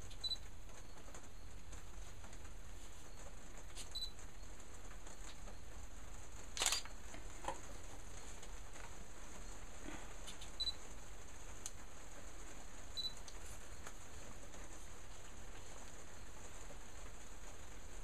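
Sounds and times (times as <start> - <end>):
low background hum and hiss: 0.0 - 18.0.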